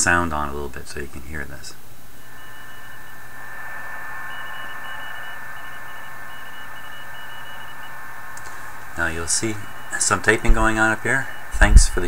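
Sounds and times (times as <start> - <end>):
radio band hiss: 0.0 - 12.0
broken on-off higher tone: 2.0 - 12.0
steady radio tone: 2.0 - 12.0.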